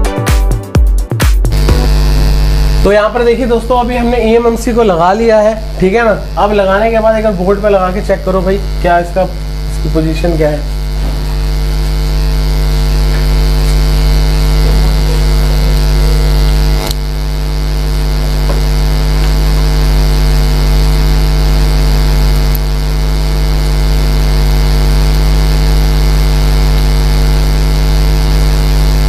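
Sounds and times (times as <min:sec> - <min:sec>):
electrical mains hum: 0:01.5 - 0:29.0.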